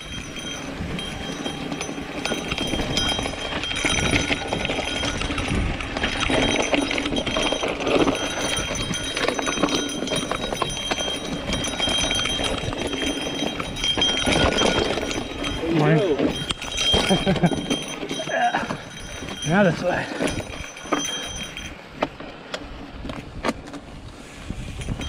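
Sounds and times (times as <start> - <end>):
bike rattling and clattering: 0.0 - 25.0
tyres on loose dirt and stones: 0.0 - 25.0.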